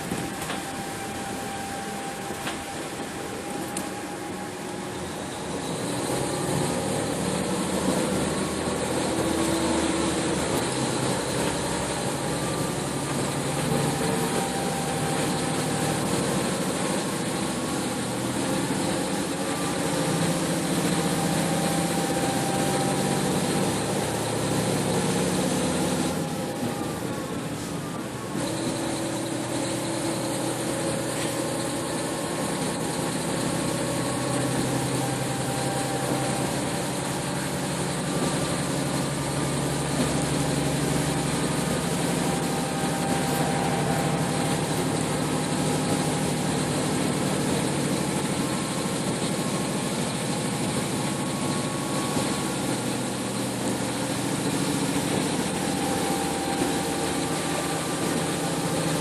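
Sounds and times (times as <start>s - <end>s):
bus engine running: 0.0s - 59.0s
road noise inside cabin: 0.0s - 59.0s.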